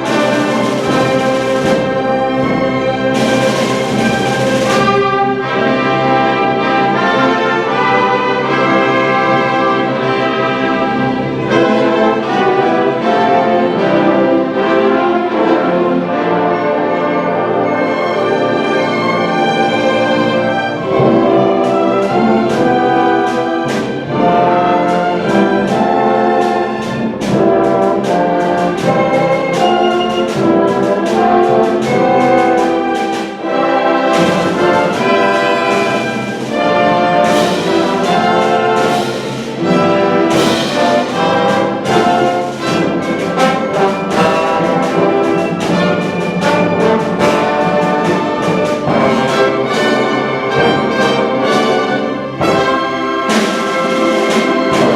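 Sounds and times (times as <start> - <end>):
percussion strikes: 0.0 - 15.9, 17.9 - 54.9
orchestra with prominent brass: 0.0 - 54.9.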